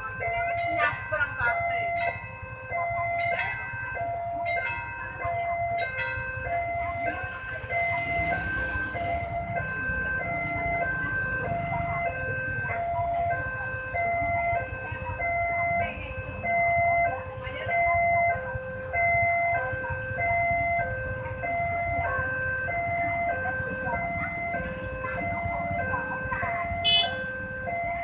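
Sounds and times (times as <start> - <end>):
level crossing alarm two-tone signal: 0.0 - 28.0.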